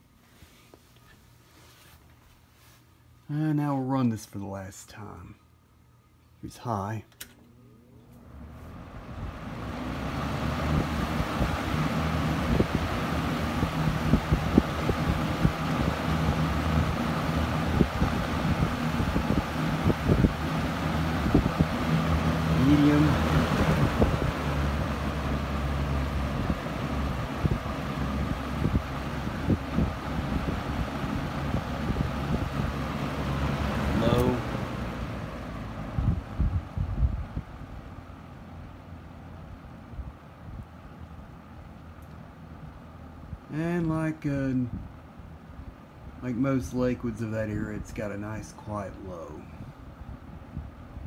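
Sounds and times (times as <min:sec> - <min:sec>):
box fan running: 0:00.0 - 0:51.0.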